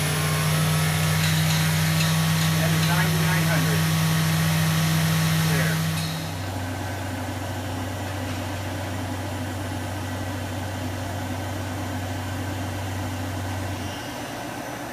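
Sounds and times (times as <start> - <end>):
machining center humming: 0.0 - 14.9.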